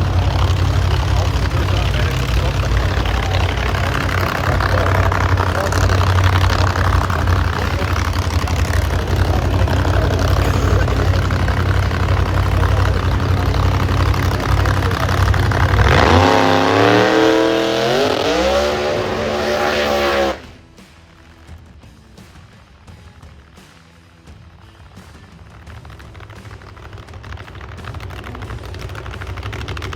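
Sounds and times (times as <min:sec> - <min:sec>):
drag race car engine: 0:00.0 - 0:29.9.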